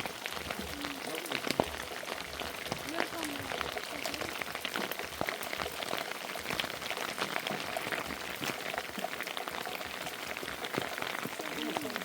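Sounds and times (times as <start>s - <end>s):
rain drops pattering: 0.0s - 12.0s.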